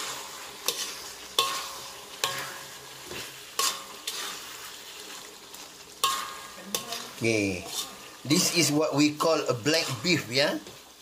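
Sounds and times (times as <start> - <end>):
spatula knocking and scraping wok: 0.0 - 10.8
meat sizzling in a wok: 0.0 - 11.0.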